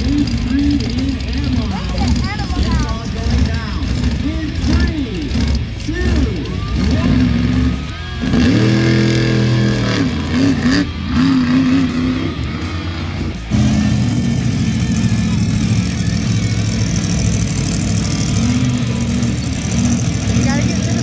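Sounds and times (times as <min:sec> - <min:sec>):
engine revving: 0:00.0 - 0:21.0
steady engine drone: 0:00.0 - 0:21.0.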